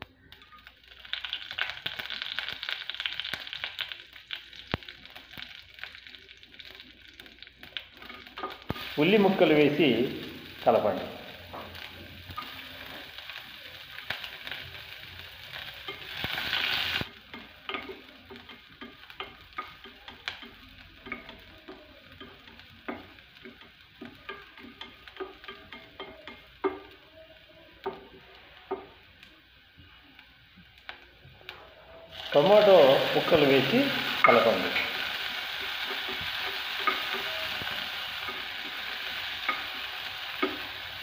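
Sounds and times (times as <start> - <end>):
onions sizzling in hot oil: 0.0 - 41.0.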